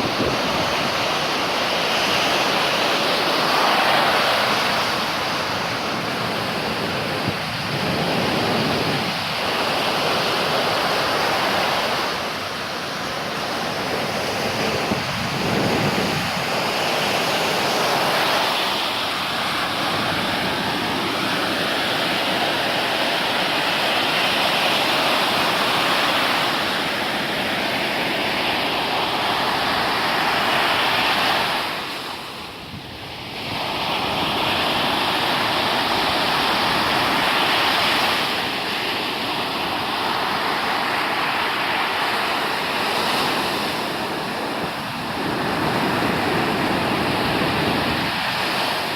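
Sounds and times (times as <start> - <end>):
surf breaking on beach: 0.0 - 48.9
wind on microphone: 0.0 - 48.9.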